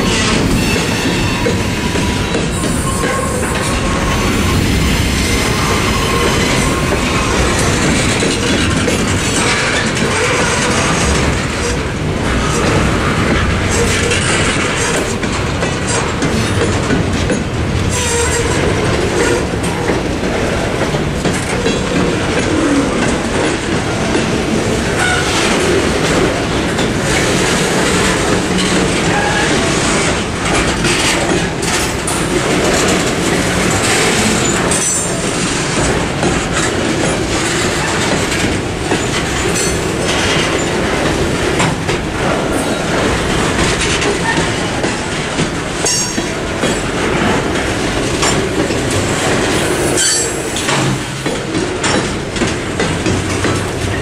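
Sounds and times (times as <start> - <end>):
train wheels rumbling: 0.0 - 54.0
wheels clacking over rail joints: 0.0 - 54.0.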